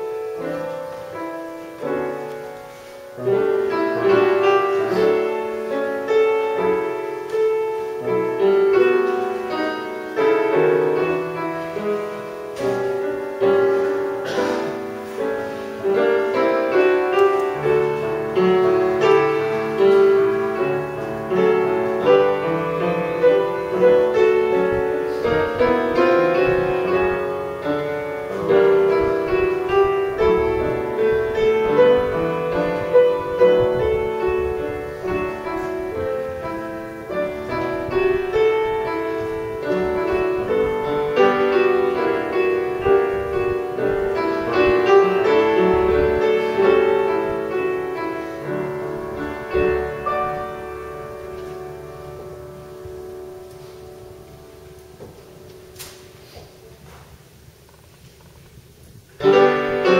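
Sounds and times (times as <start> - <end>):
slow solo piano piece: 0.0 - 59.9.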